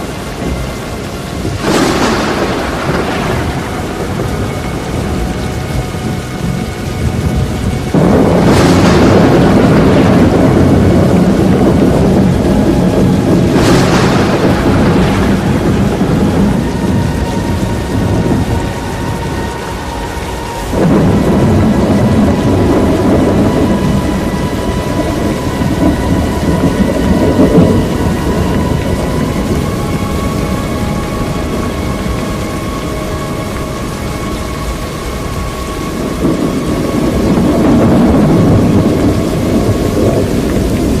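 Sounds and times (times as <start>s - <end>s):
rain: 0.0s - 41.0s
rumbling thunder: 0.0s - 41.0s
sharp thunder crack: 0.0s - 41.0s.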